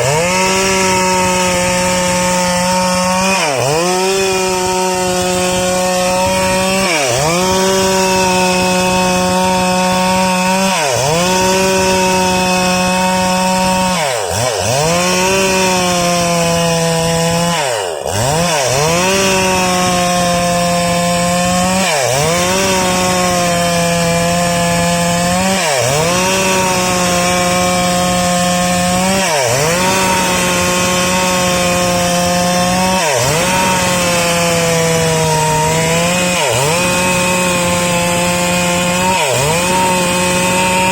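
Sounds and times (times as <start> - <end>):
chainsaw cutting through log: 0.0 - 40.9.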